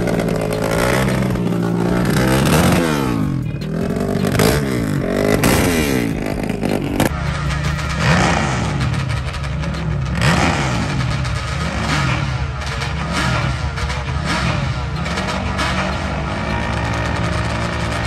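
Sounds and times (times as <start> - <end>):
distant engine revving: 0.0 - 18.0
quad engine revving: 0.0 - 18.0.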